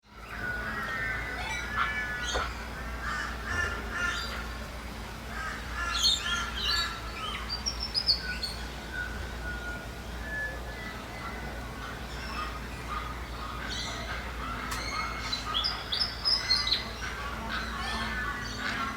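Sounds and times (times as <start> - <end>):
birds chirping and warbling: 0.0 - 18.9.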